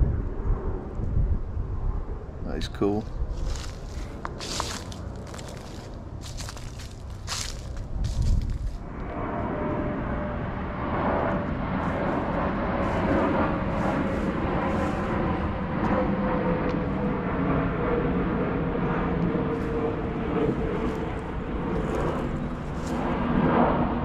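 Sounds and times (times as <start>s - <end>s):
airplane flying overhead: 0.0s - 24.0s.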